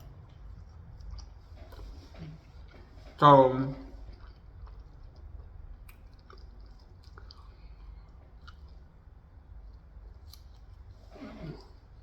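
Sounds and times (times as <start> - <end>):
person chewing food: 0.0 - 3.2, 3.8 - 12.0
low steady hum: 0.0 - 12.0.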